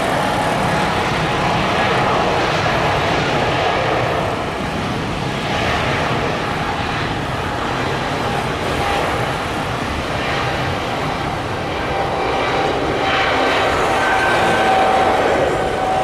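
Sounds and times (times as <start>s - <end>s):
loud jet engine noise: 0.0s - 16.0s.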